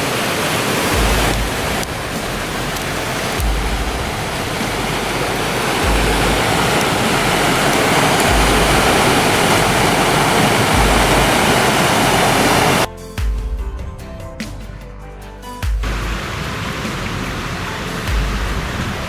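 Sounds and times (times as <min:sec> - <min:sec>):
waterfall rushing: 0:00.0 - 0:12.9, 0:15.8 - 0:19.0.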